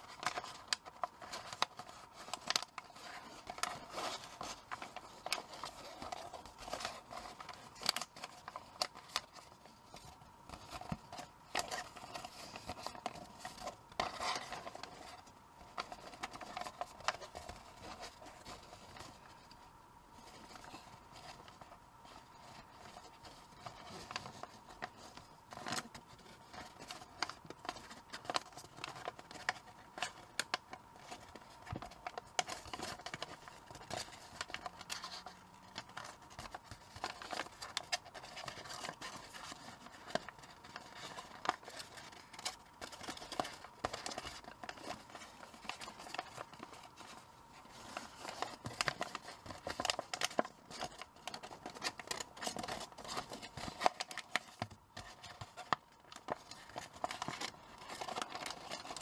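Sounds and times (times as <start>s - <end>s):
paper being folded and creased: 0.0s - 59.0s.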